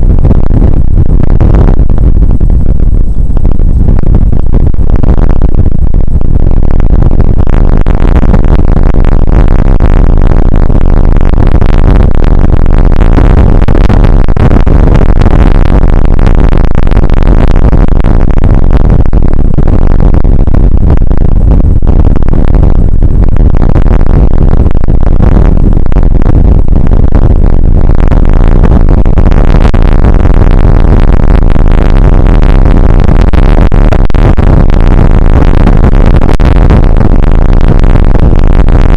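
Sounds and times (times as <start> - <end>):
rain and wind on microphone: 0.0 - 38.9.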